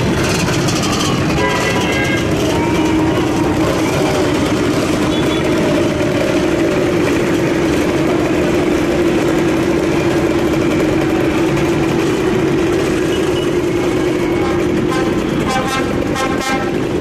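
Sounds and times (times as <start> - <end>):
motor scooter engines idling: 0.0 - 17.0.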